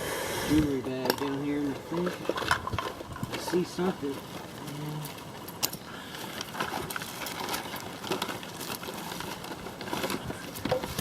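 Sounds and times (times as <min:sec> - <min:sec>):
hands rummaging through small items: 0:00.8 - 0:11.0
small items clicking and knocking: 0:00.8 - 0:11.0.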